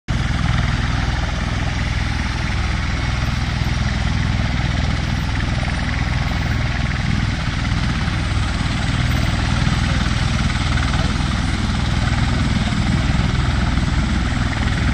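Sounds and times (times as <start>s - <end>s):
tiltrotor aircraft throbbing: 0.1s - 14.9s
turbine rushing noise: 0.1s - 14.9s.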